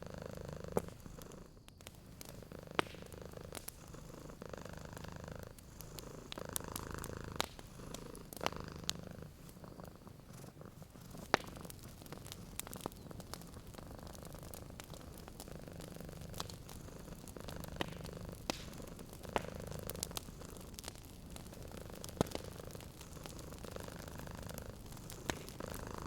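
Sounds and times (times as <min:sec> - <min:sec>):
cat purring: 0:00.0 - 0:26.0
wood fire crackling and popping: 0:00.0 - 0:26.0.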